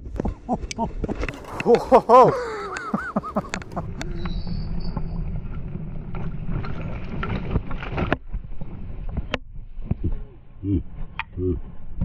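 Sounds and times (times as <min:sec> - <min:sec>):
scooter rattling on dirt trail: 0:00.0 - 0:10.2.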